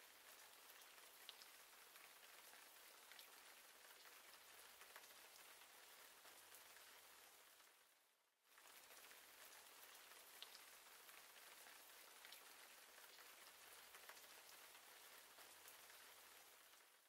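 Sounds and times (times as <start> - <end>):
faint rain: 0.0 - 17.0.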